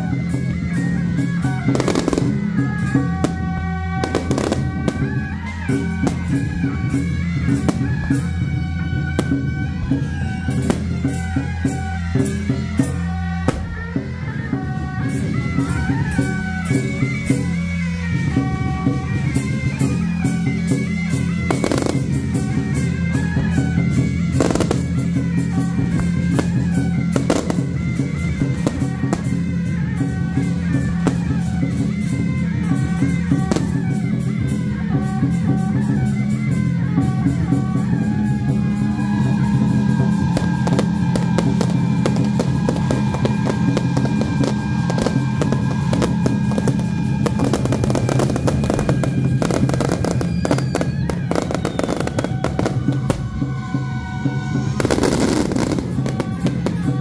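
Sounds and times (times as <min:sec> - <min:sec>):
fireworks bursting and crackling: 0:00.0 - 0:57.0
rock music with guitar and drums: 0:00.0 - 0:57.0.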